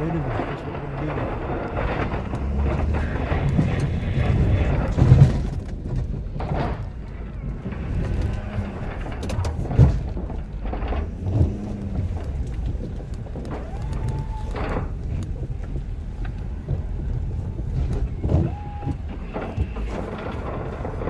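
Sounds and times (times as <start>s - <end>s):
diesel pickup engine under load: 0.0s - 21.0s
truck and plow thumping: 0.0s - 21.0s.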